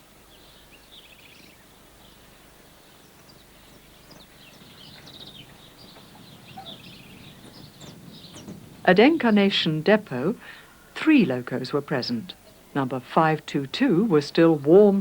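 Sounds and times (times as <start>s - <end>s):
small birds chirping: 0.0s - 15.0s
steady background hiss: 0.0s - 15.0s.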